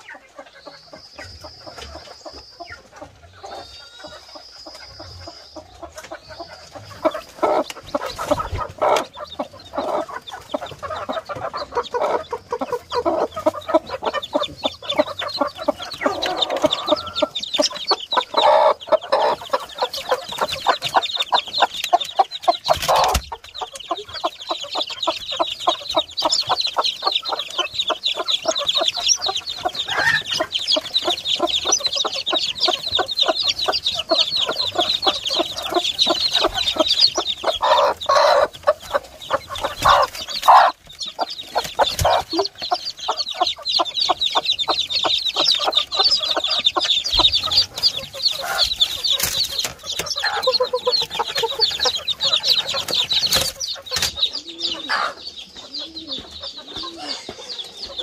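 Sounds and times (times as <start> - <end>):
chickens clucking: 0.0 - 58.0
chicks peeping: 0.0 - 58.0.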